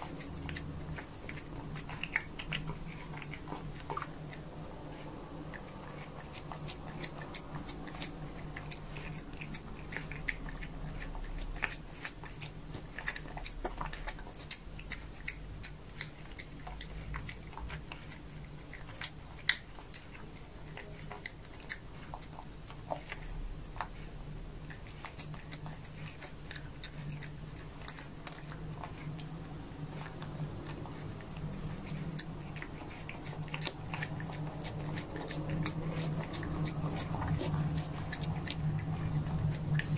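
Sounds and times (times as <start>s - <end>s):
cat chewing food: 0.0s - 39.9s.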